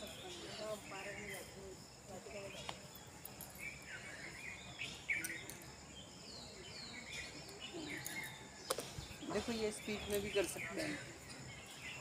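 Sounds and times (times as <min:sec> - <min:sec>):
birds chirping downward: 0:00.0 - 0:12.0.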